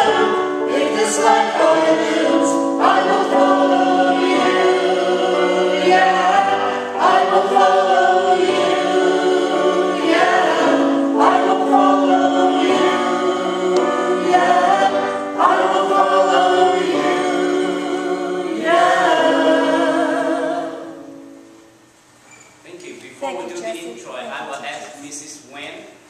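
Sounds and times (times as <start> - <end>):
voices singing held notes: 0.0 - 21.6
musical accompaniment: 0.0 - 21.9.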